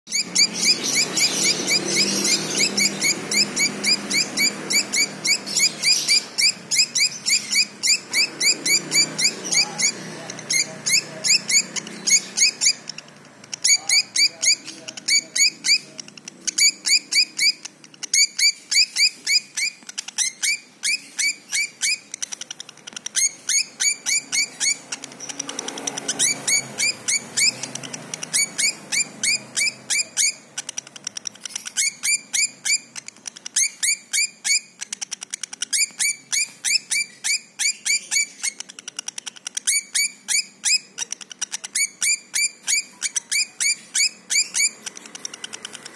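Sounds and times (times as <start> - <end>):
bird chirping rapidly: 0.1 - 45.9.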